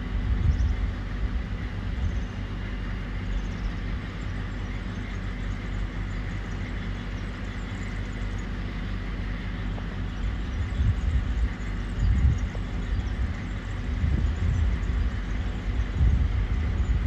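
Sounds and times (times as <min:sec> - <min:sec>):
distant freight train rumble: 0:00.0 - 0:17.0.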